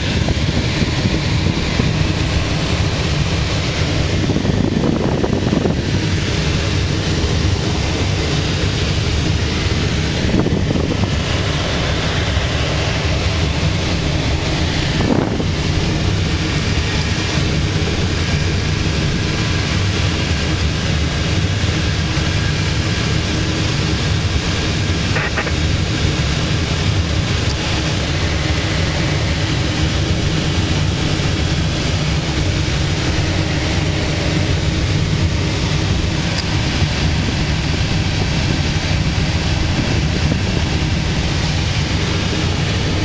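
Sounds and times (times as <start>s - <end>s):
airflow rushing around cockpit: 0.0s - 43.0s.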